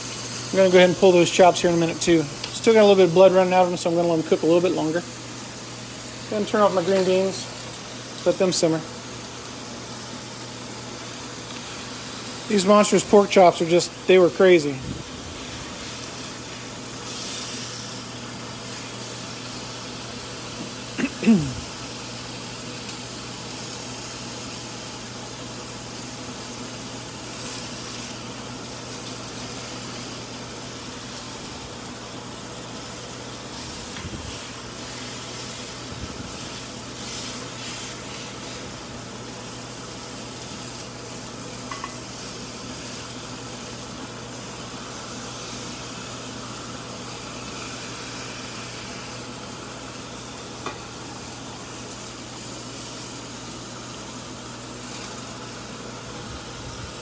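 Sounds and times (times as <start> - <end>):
meat sizzling on a grill pan: 0.0 - 57.0.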